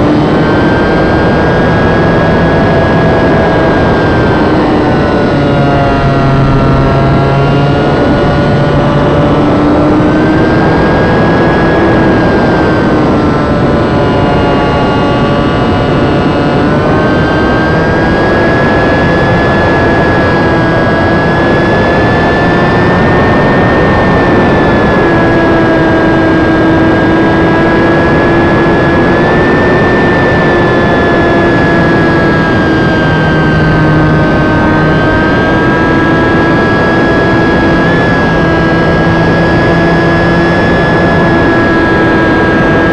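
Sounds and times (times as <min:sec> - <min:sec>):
model plane motor whining: 0:00.0 - 0:42.9
wind rush on microphone: 0:00.0 - 0:42.9.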